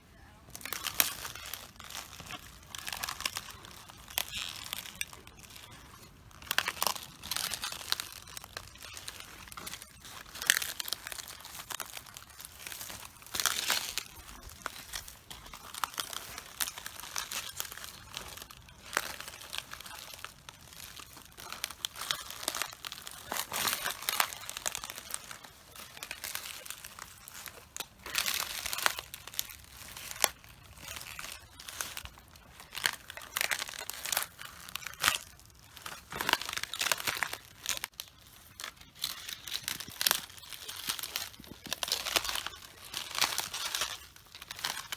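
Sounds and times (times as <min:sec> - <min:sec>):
cabbage leaves crunching underfoot: 0:00.1 - 0:44.9.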